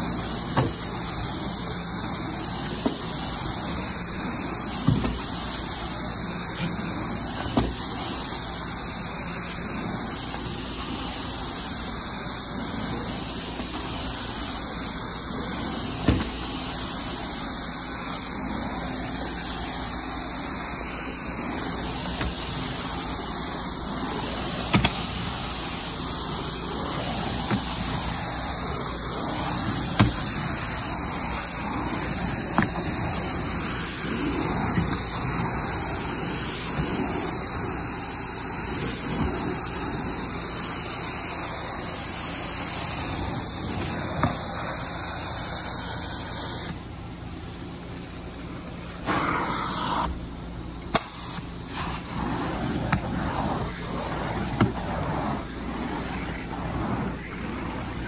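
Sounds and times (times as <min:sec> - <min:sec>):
carpet cleaning machine running: 0:00.0 - 0:58.0.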